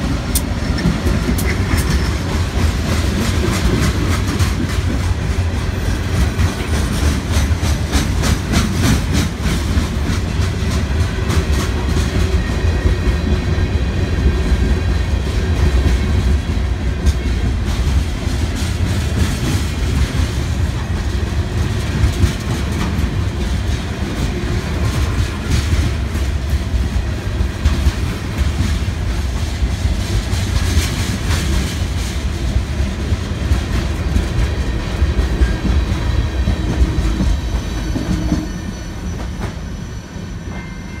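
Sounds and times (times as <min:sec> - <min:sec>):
steel wheels rumbling on rail: 0:00.0 - 0:41.0.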